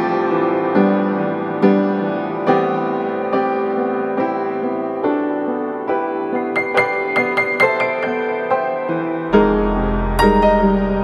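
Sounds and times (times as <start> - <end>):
slow soft piano music: 0.0 - 11.0.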